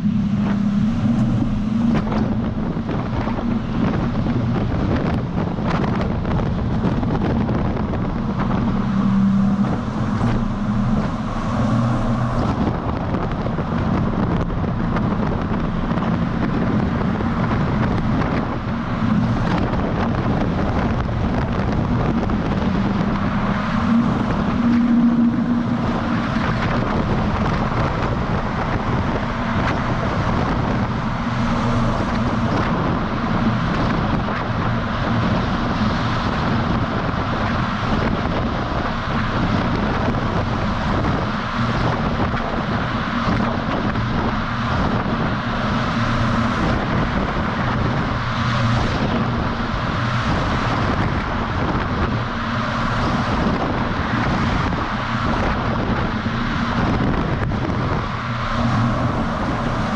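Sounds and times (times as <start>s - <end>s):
road and wind noise: 0.0s - 59.9s
truck engine drone: 0.0s - 59.9s
wind on microphone: 0.0s - 59.9s.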